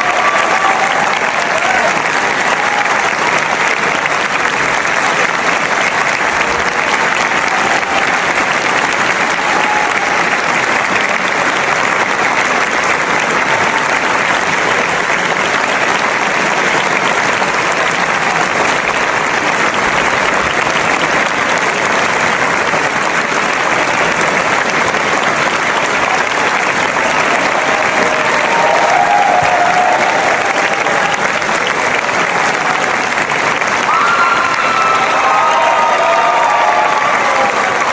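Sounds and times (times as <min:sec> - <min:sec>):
crowd clapping and cheering: 0:00.0 - 0:37.9.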